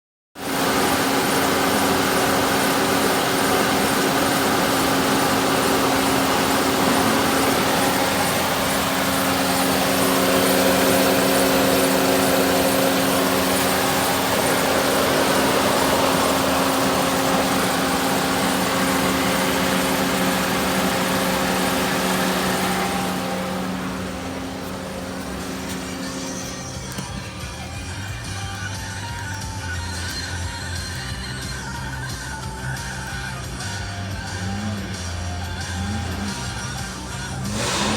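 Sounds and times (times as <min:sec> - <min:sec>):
car engine idling: 0:00.4 - 0:37.9.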